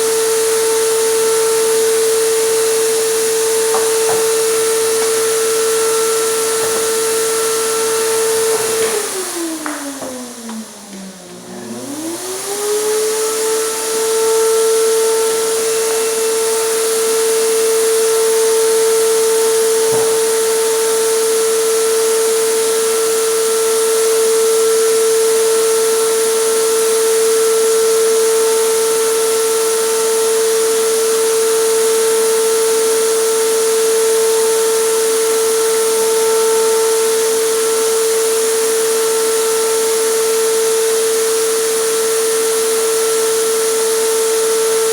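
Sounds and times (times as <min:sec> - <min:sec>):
air compressor motor humming: 0:00.0 - 0:44.9.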